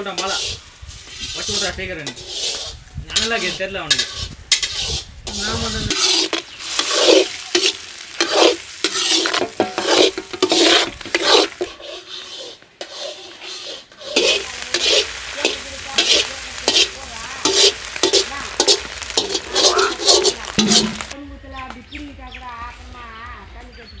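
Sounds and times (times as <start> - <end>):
eggs sizzling in oil: 0.0 - 21.2
metal spatula scraping a pan: 0.0 - 21.2.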